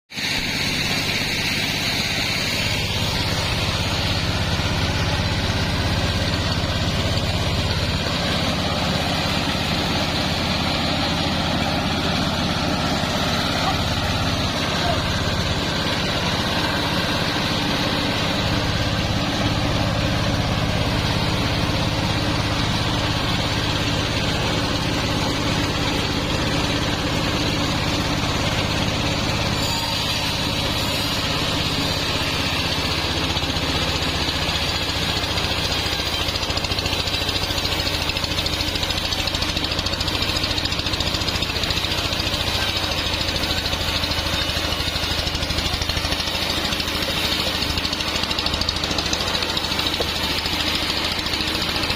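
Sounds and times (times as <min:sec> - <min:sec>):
band saw high whine: 0:00.1 - 0:51.9
low engine hum: 0:00.2 - 0:51.9.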